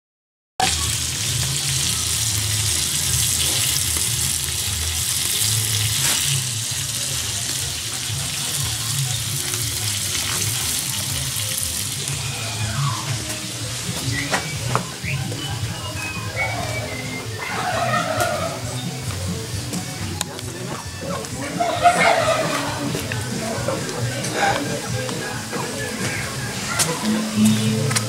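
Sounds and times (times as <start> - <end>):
wood fire hissing and crackling: 0.7 - 28.0.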